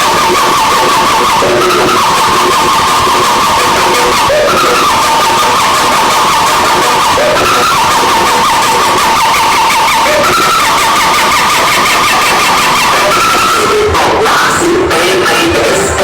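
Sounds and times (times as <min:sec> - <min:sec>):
distorted squealing tone: 0:00.0 - 0:16.0.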